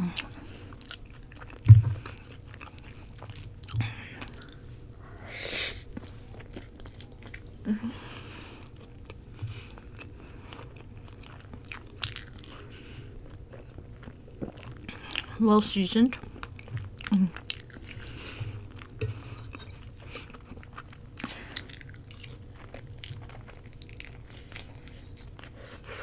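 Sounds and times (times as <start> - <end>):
chewing with mouth smacks: 0.0 - 5.0, 5.8 - 15.4, 16.0 - 26.0.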